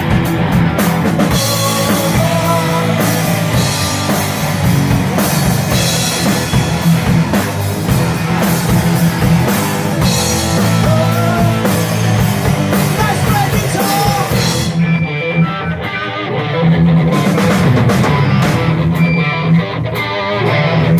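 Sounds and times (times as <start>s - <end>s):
drum kit: 0.0s - 15.1s, 15.7s - 20.9s
electric guitar: 0.0s - 20.9s.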